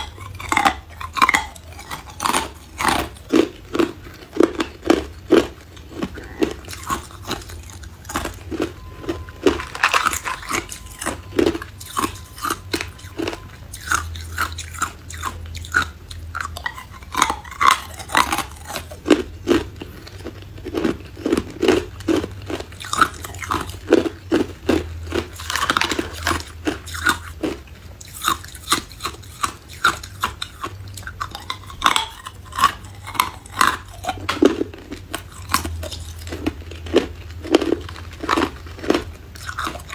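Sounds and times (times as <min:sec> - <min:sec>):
teeth crunching ice: 0:00.0 - 0:39.9.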